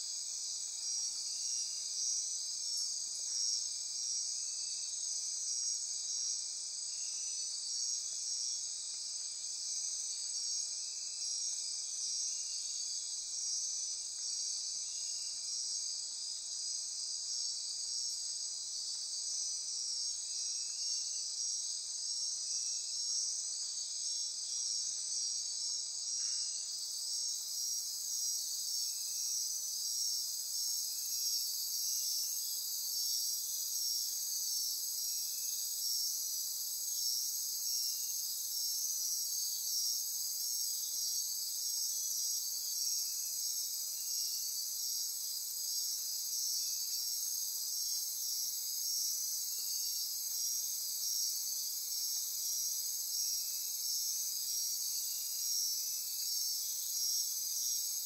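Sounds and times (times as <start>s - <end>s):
night insects trilling and buzzing: 0.0s - 58.0s.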